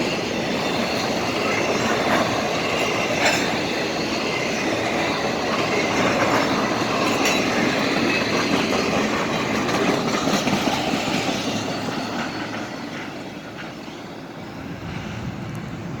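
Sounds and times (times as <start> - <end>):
train cars rolling on rails: 0.0 - 16.0.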